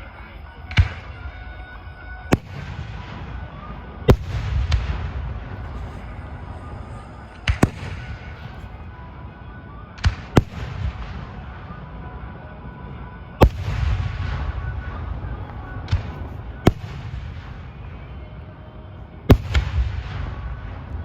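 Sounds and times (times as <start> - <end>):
fireworks bangs with rumbling echo: 0.6 - 9.1, 9.7 - 12.2, 13.4 - 18.5, 19.2 - 21.0.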